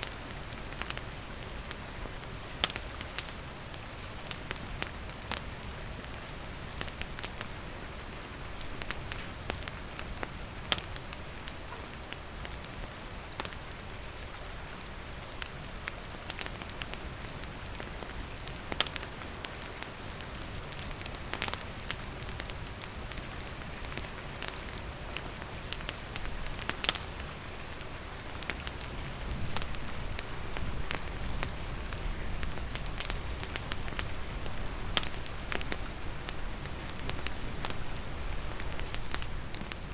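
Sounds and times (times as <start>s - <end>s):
campfire crackling: 0.0s - 39.9s
rain falling on wooden shelter: 0.0s - 39.9s.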